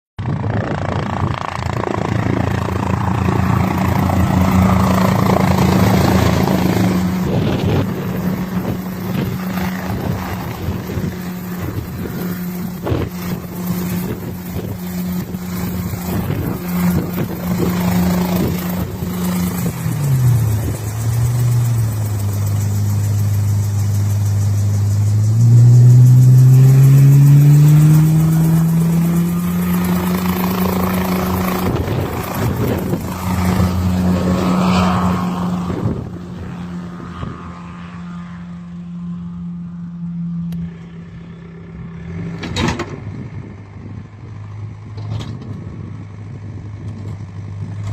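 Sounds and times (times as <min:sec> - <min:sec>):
helicopter engine and rotor: 0:00.2 - 0:47.9.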